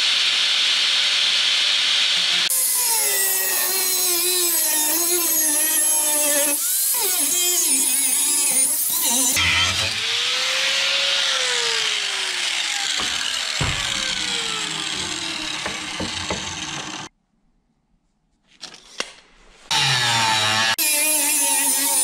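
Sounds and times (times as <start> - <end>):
angle grinder cutting steel: 0.0 - 17.1, 19.7 - 22.0.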